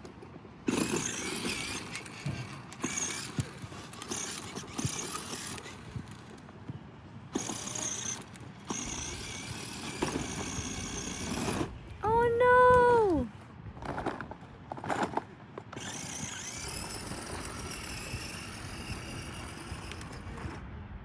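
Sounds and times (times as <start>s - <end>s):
toy motorbike rattling over ground: 0.0s - 6.5s, 7.3s - 11.7s, 13.8s - 20.6s.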